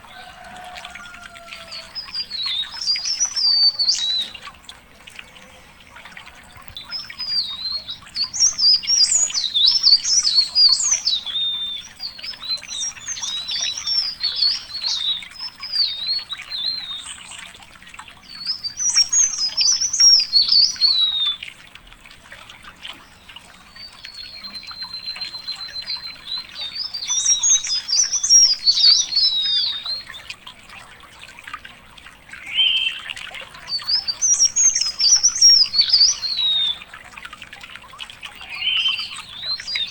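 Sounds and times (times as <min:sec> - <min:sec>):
songbird warbling: 0:00.0 - 0:21.5, 0:23.0 - 0:30.4, 0:32.3 - 0:37.2, 0:38.1 - 0:39.9.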